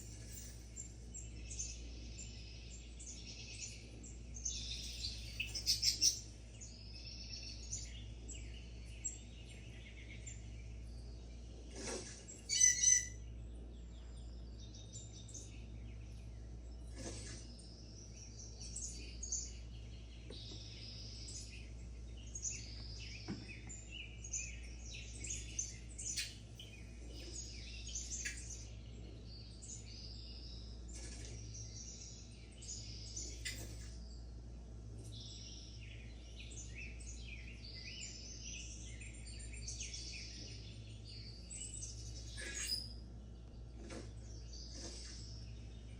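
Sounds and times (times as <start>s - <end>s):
small birds chirping: 0.0s - 45.9s
steady low hum: 0.0s - 45.9s.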